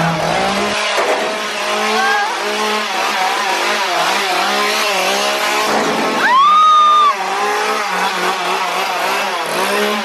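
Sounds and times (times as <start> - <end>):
chainsaw engine revving: 0.0 - 10.0.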